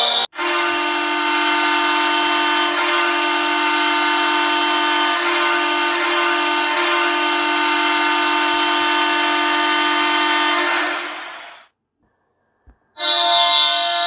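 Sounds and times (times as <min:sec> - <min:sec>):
hockey goal horn: 0:00.0 - 0:11.6, 0:13.0 - 0:14.0.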